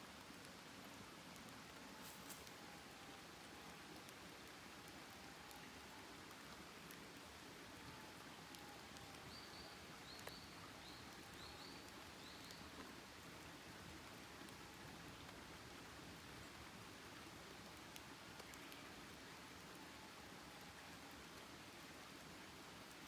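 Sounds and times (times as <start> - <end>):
campfire crackling: 0.1 - 23.0.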